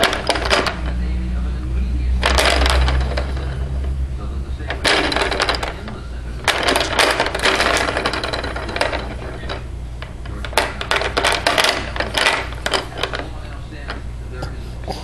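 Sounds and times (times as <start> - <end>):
plastic toys clicking and rattling: 0.0 - 1.0, 2.2 - 3.8, 4.6 - 14.0
low steady hum: 0.0 - 15.0.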